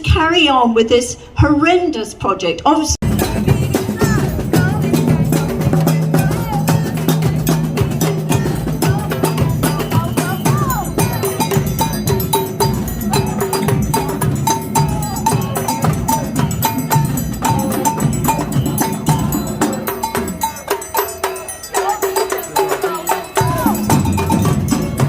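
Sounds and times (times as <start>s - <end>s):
drum and block hits: 3.0s - 25.0s
percussion music with bell-like notes: 3.0s - 25.0s.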